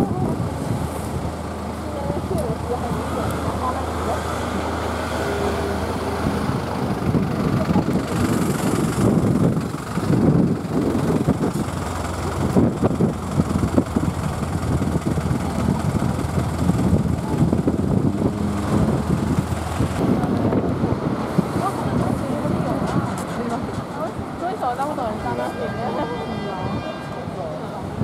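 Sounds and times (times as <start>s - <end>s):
truck engine idling: 0.0s - 25.2s
wind rumbling on microphone: 0.0s - 25.4s
road traffic: 0.0s - 28.0s.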